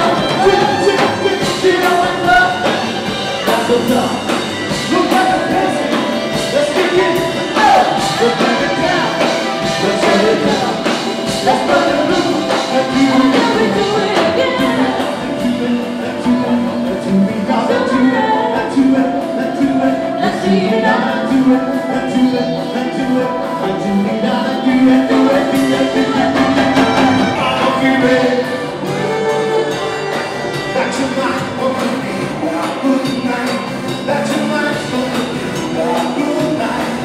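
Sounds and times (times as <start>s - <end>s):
person singing: 0.0s - 37.0s
upbeat dance-band music: 0.0s - 37.0s.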